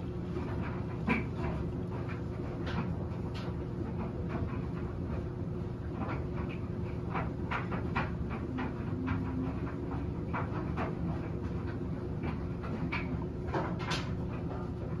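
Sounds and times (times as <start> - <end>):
washing machine drum hum: 0.0 - 15.0.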